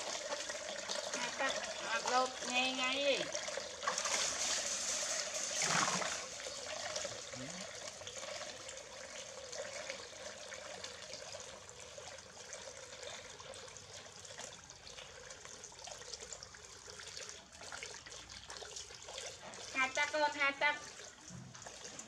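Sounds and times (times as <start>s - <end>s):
water trickling into basin: 0.0s - 22.0s.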